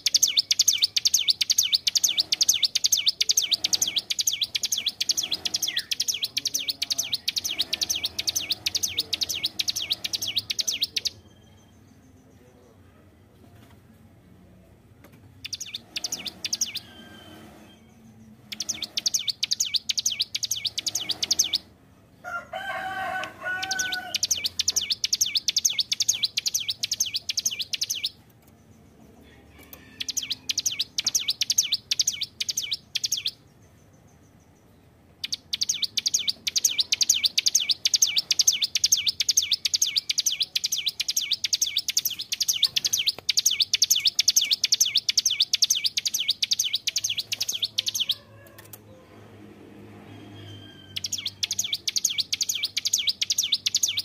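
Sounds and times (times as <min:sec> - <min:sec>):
bird chattering trills: 0:00.0 - 0:11.3, 0:15.4 - 0:17.3, 0:18.4 - 0:21.7, 0:23.5 - 0:33.8, 0:35.2 - 0:48.8, 0:50.9 - 0:54.0.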